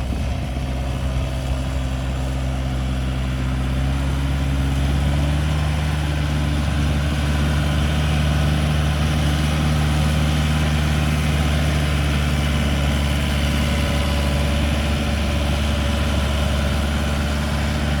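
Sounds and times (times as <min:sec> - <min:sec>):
tiller churning: 0:00.0 - 0:18.0
tractor diesel engine running: 0:00.0 - 0:18.0.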